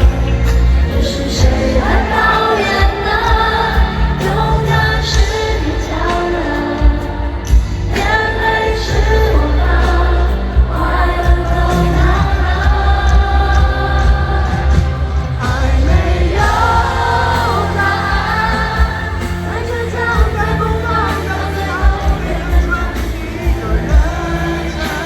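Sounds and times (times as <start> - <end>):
drums: 0.0 - 25.0.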